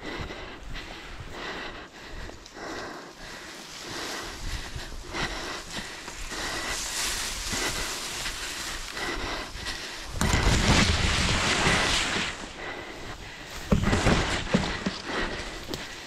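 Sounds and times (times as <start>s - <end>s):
footsteps in tall grass: 0.6s - 16.0s
grass rustling against body: 2.2s - 16.0s.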